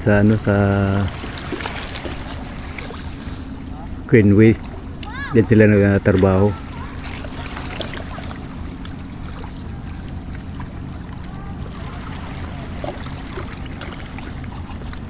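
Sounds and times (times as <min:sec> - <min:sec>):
low engine drone: 0:00.0 - 0:15.0
water lapping and trickling: 0:00.0 - 0:15.0.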